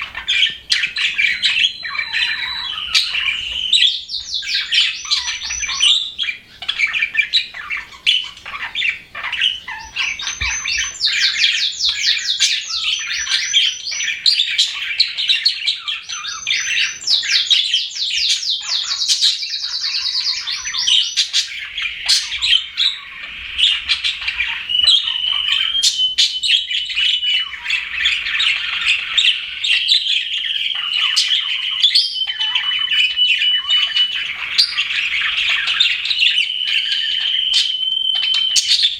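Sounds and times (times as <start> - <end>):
bird whistles: 0.0 - 38.9
budgerigars chirping and warbling: 0.0 - 38.9.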